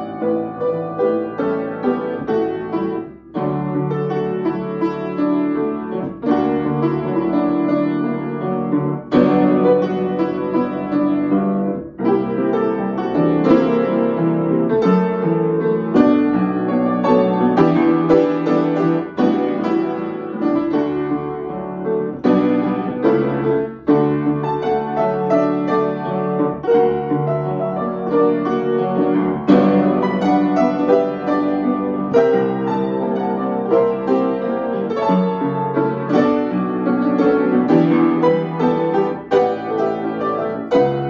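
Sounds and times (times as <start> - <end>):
solo piano ballad: 0.0 - 41.0.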